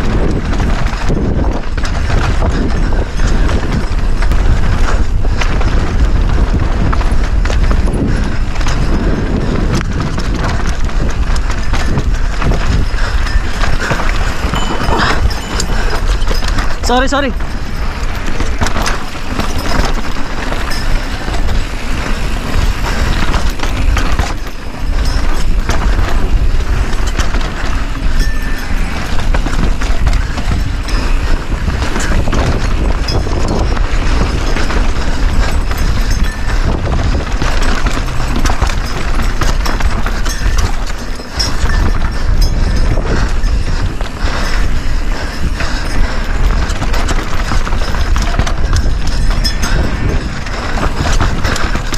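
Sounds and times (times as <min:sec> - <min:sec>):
bike rattling over rocks: 0:00.0 - 0:51.9
wind rush on microphone: 0:00.0 - 0:51.9.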